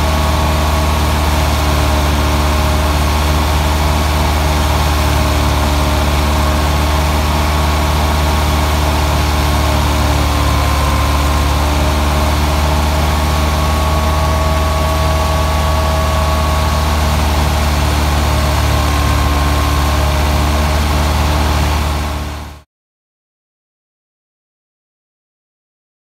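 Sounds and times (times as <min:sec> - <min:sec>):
diesel engine running: 0:00.0 - 0:22.6
thresher whirring: 0:00.1 - 0:22.4.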